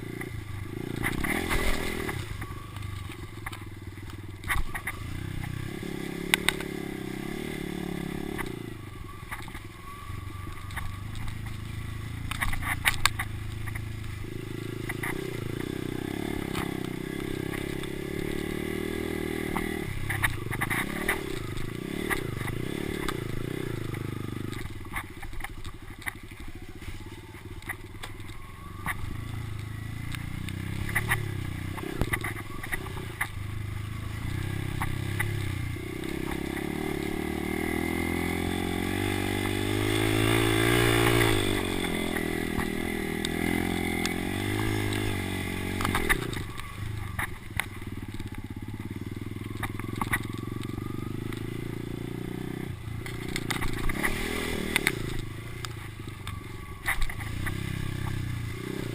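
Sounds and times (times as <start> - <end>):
motocross bike engine revving: 0.0 - 2.6, 4.4 - 10.0, 11.4 - 25.0, 28.9 - 47.4, 48.0 - 55.7, 56.8 - 58.9.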